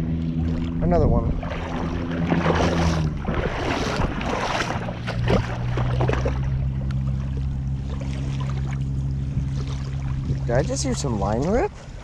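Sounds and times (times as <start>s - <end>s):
feet splashing through shallow water: 0.0s - 12.0s
steady low hum: 0.0s - 12.0s.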